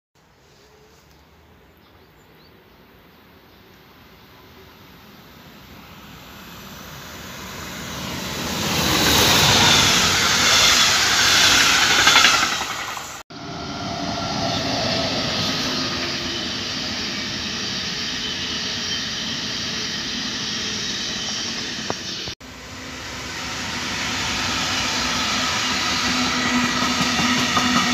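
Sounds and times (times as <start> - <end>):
electric train passing: 3.3 - 27.9
high-speed train wheels on rails: 4.6 - 27.9.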